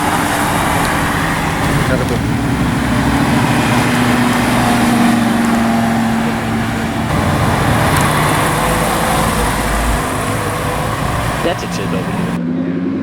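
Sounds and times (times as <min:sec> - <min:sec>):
car engine humming: 0:00.0 - 0:12.4
engine and road noise: 0:00.0 - 0:13.0.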